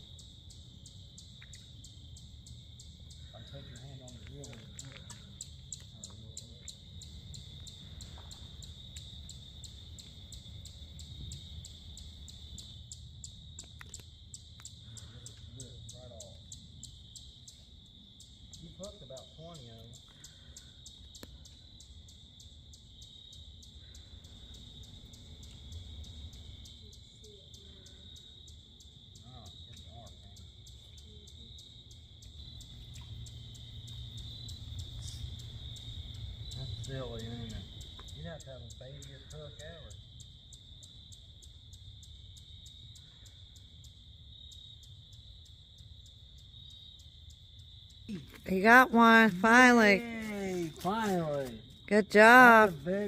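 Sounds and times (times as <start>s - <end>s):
insect high trill: 0.0s - 53.0s
insect sharp chirps: 0.0s - 53.0s.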